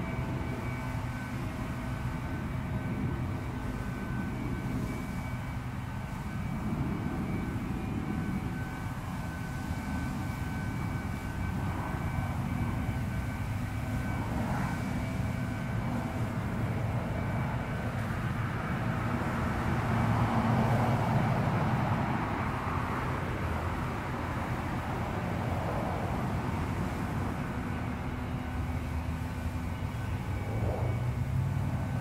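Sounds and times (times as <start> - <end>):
distant engine rumble: 0.0 - 32.0.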